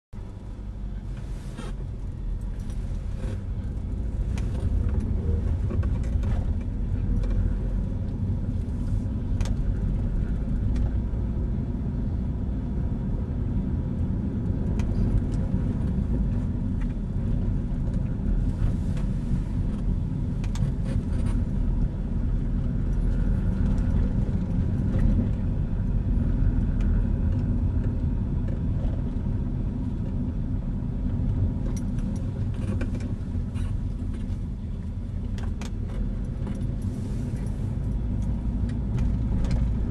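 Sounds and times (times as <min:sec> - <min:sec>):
engine and tyre rumble: 0:00.1 - 0:39.9.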